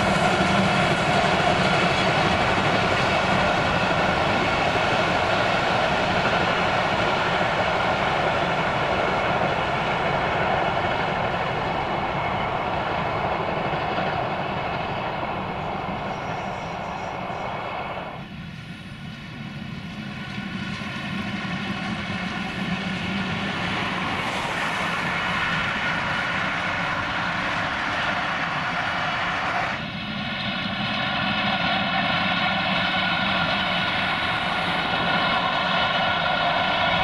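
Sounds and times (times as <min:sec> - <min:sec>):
steam train passing: 0:00.0 - 0:37.0.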